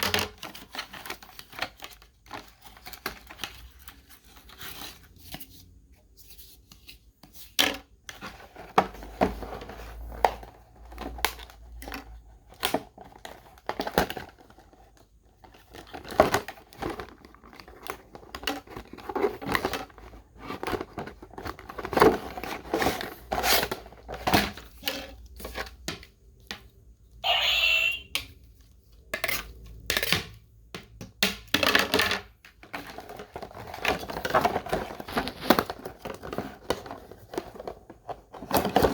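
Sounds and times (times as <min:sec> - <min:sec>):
plastic and cardboard crinkling: 0:00.0 - 0:26.7, 0:31.7 - 0:38.9.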